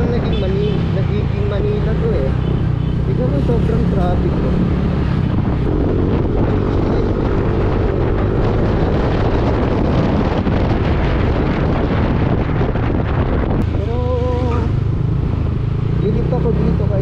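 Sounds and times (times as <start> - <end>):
road noise: 0.0 - 17.0
wind rumble on microphone: 0.0 - 17.0.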